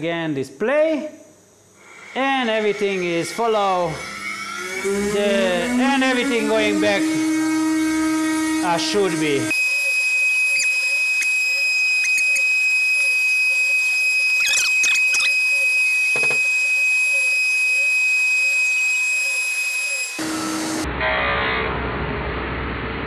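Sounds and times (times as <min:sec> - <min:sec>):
dull coarse machine noise: 0:01.8 - 0:21.0
router spindle cutting wood: 0:02.0 - 0:20.8.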